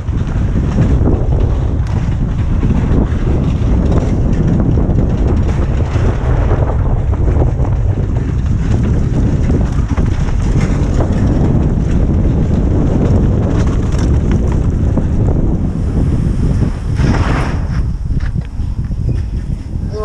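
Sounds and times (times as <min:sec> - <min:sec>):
bike clicks and rattles: 0:00.0 - 0:20.0
low rumble: 0:00.0 - 0:20.0
wind buffeting microphone: 0:00.0 - 0:20.0.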